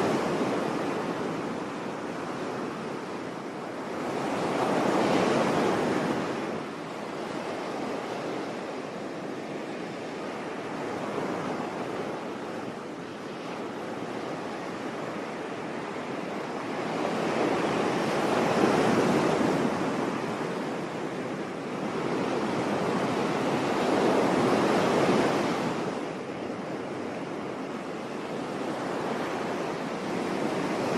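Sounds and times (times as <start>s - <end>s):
sea waves breaking on beach: 0.0s - 30.9s.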